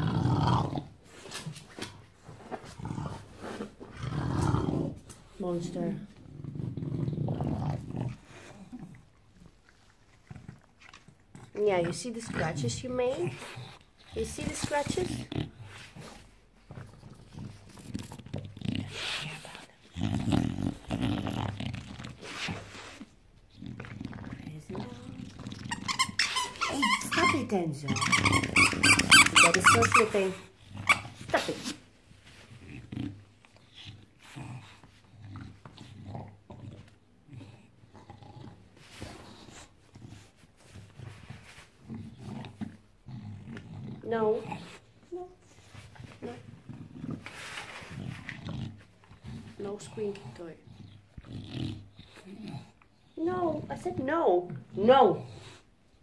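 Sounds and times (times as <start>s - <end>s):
dog grunting and growling: 0.0s - 1.5s, 2.4s - 9.6s, 10.2s - 31.8s, 32.5s - 39.7s, 41.8s - 45.0s, 46.0s - 55.6s.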